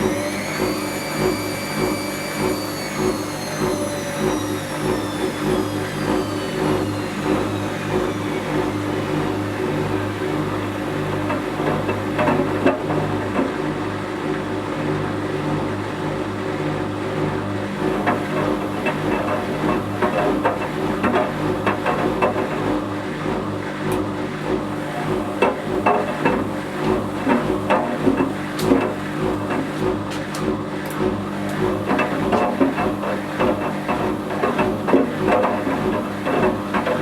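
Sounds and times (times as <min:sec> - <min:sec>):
washing machine motor humming: 0:00.0 - 0:37.0.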